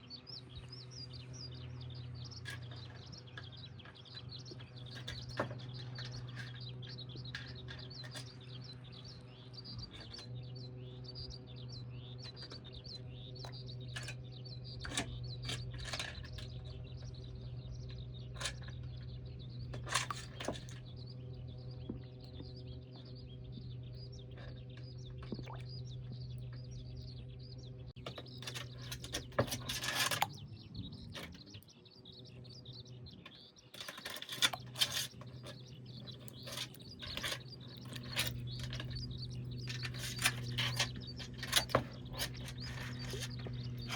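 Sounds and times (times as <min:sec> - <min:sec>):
low mechanical hum: 0:00.0 - 0:43.9
small birds chirping: 0:00.0 - 0:43.9.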